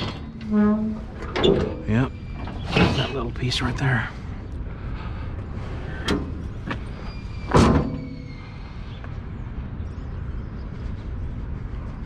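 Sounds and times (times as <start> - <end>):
steady low rumble: 0.0 - 7.5, 8.4 - 12.0.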